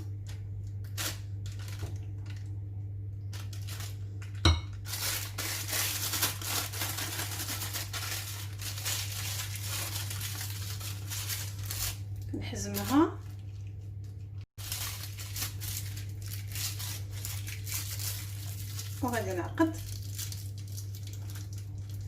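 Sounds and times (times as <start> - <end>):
plastic piping bag rustling: 0.0 - 22.0.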